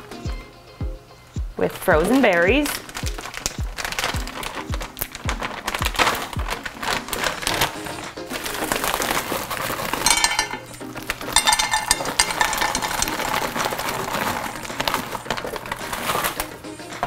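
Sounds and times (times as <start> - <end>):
background music: 0.0 - 17.0
frozen berries clicking into a dish: 2.0 - 17.0.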